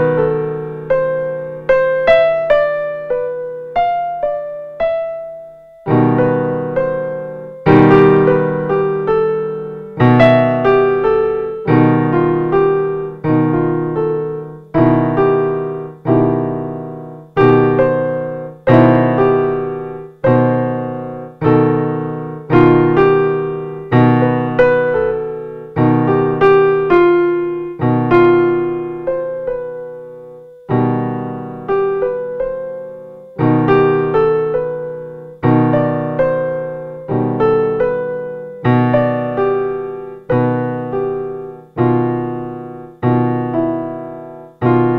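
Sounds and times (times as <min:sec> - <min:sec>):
slow piano chords: 0:00.0 - 0:44.9.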